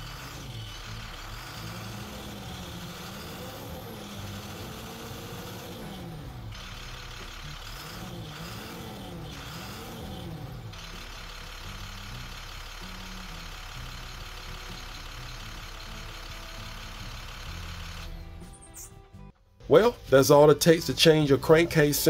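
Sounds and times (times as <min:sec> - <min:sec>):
diesel engine revving: 0:00.0 - 0:22.0.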